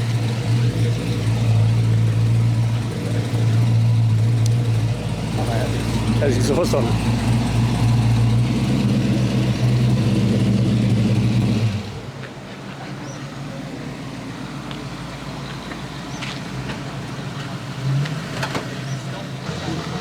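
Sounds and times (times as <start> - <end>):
car engine with loud exhaust: 0.0 - 20.0.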